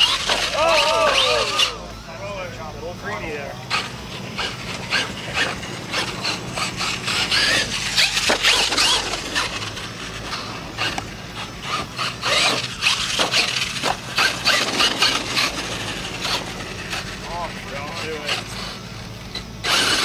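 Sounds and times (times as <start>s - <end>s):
tyres scrabbling: 0.0s - 2.0s, 2.9s - 20.0s
toy truck drivetrain whining: 0.0s - 20.0s.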